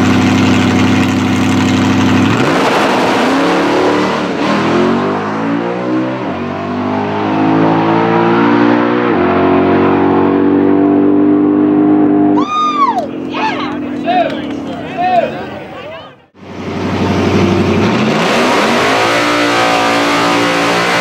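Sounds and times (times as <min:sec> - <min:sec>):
drag car engine accelerating: 0:00.0 - 0:21.0.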